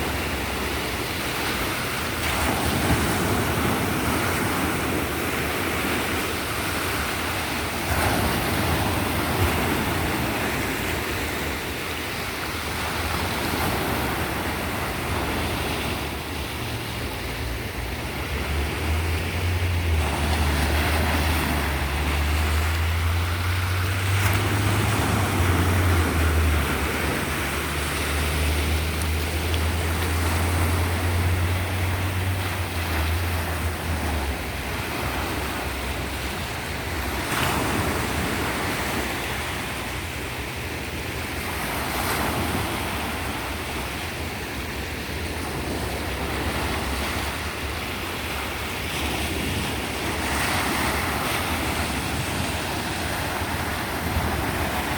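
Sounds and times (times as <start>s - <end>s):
sea surf washing in: 0.0s - 54.9s.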